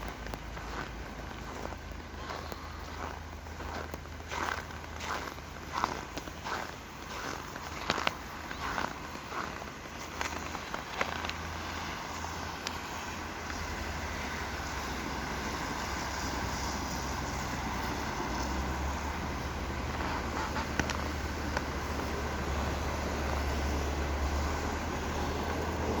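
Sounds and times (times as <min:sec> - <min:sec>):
frozen snow creaking and squeaking: 0:00.0 - 0:26.0.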